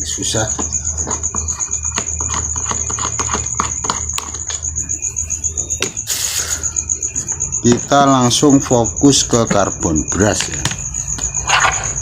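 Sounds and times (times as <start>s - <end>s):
cricket chirring: 0.0s - 12.0s.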